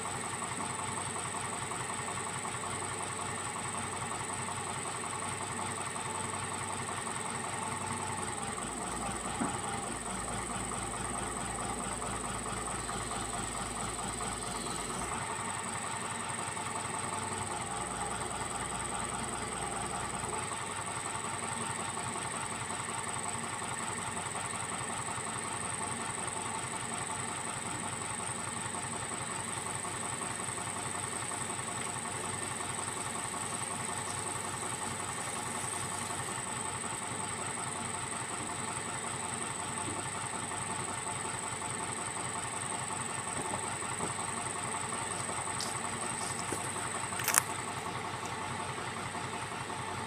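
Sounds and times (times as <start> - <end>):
excavator diesel engine idling: 0.0 - 50.0.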